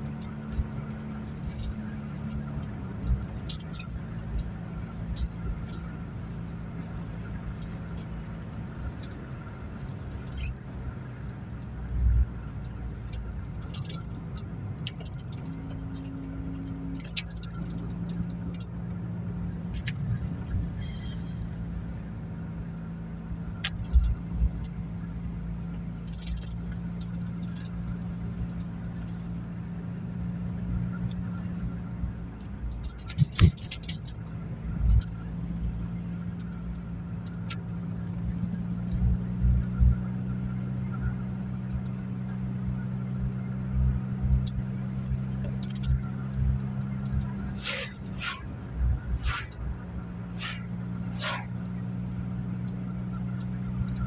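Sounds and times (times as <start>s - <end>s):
car engine cruising: 0.0s - 54.0s
road noise: 0.0s - 54.0s.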